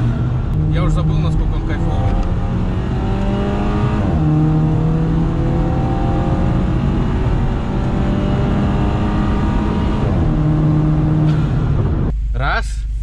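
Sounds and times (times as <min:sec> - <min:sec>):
car engine accelerating: 0:00.0 - 0:12.1.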